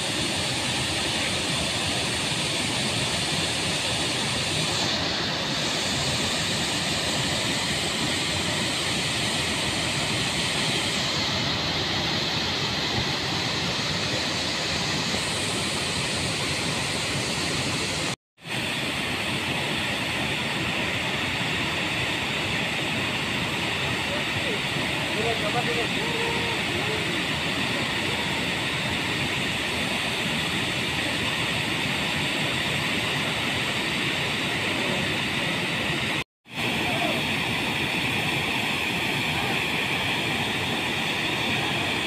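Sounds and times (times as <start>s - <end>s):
water rushing down spillway: 0.0s - 42.0s.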